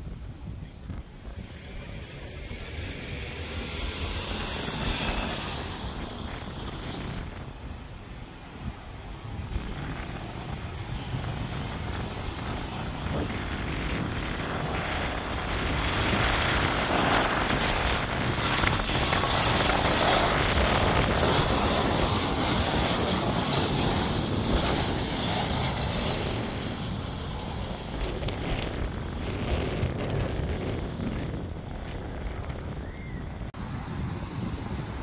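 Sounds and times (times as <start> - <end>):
high jet engine whine: 0.0 - 35.0
jet airliner rumble overhead: 0.0 - 35.0.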